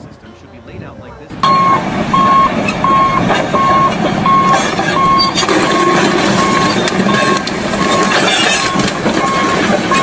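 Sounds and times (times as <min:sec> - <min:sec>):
engine running: 0:01.2 - 0:10.0
reversing alarm beeping: 0:01.4 - 0:10.0.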